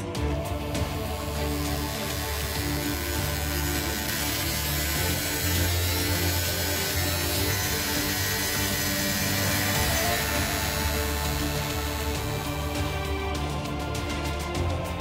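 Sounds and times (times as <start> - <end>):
background music with low notes: 0.0 - 15.0
rotary tool engraving steel: 0.0 - 15.0.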